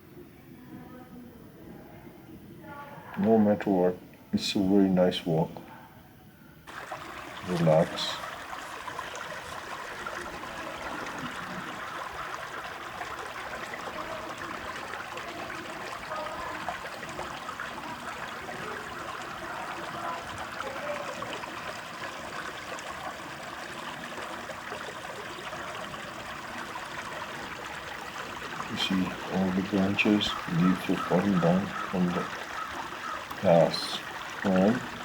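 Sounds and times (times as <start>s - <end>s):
stream trickling: 6.7s - 35.0s.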